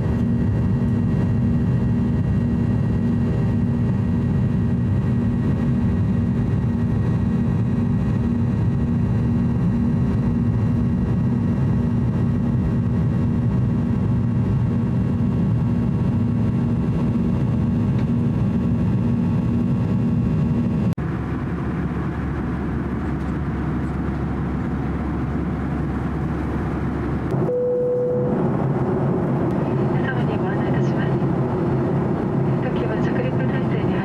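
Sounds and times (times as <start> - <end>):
airplane cabin engine noise: 0.0 - 34.0.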